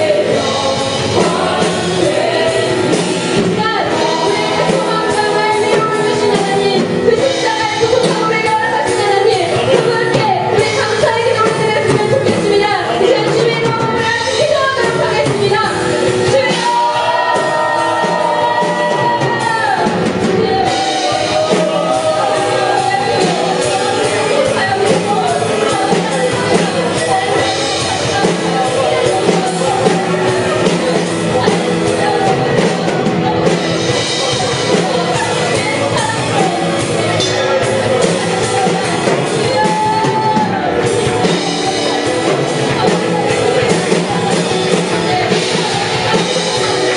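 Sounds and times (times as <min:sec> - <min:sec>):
person singing: 0:00.0 - 0:46.9
praise band playing: 0:00.0 - 0:46.9.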